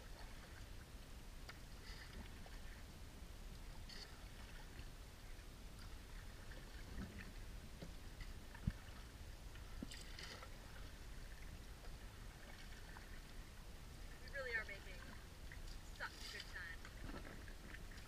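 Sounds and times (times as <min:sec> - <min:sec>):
paddle strokes in water: 0:00.0 - 0:18.0
steady low rumble: 0:00.0 - 0:18.0.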